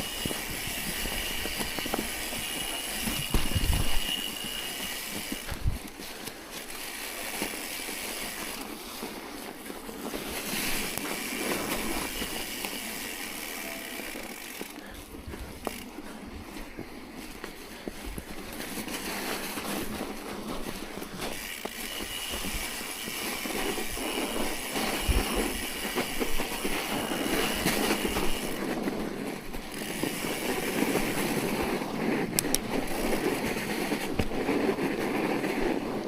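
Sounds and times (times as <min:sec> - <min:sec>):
tyres rolling over snow: 0:00.0 - 0:36.0.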